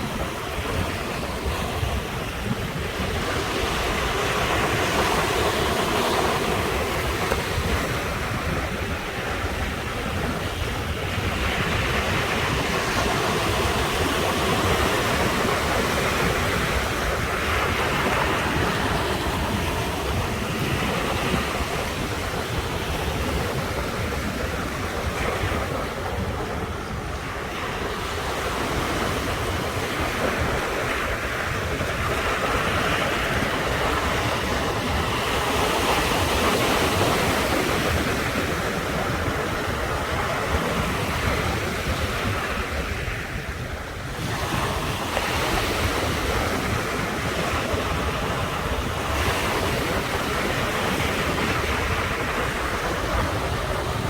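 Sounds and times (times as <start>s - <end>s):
sea waves breaking on shore: 0.0s - 54.0s
wind rumble on microphone: 0.0s - 54.0s.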